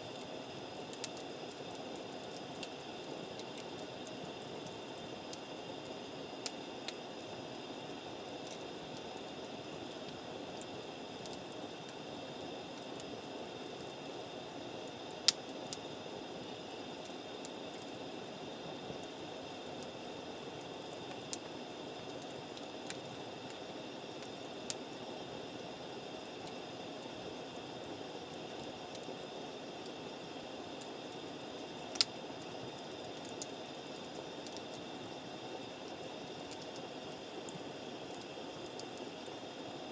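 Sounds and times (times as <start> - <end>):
campfire burning with pops: 0.0 - 39.9.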